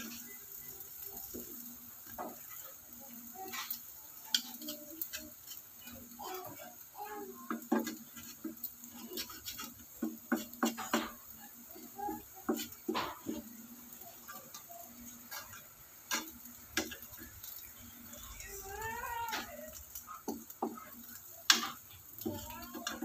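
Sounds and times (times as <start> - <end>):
spatula scraping frying pan: 0.0 - 23.0.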